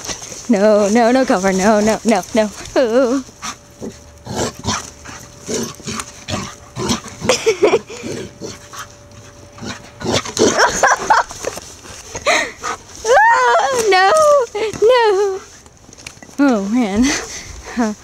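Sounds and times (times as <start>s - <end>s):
rustling in snow: 0.0s - 9.8s, 10.4s - 18.0s.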